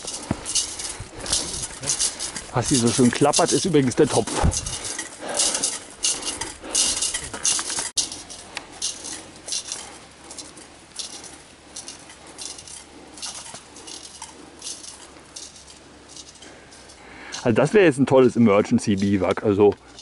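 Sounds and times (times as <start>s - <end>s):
cooking pot clattering on backpack: 0.0s - 17.5s
footsteps: 0.0s - 20.0s.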